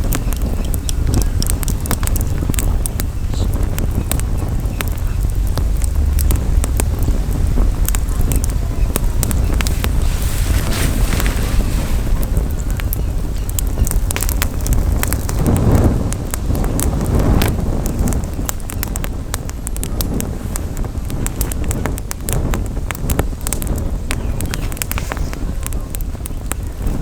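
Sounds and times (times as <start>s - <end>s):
campfire crackling: 0.0s - 27.0s
fire pops and snaps: 0.0s - 27.0s
wind rumbling on microphone: 0.0s - 27.0s.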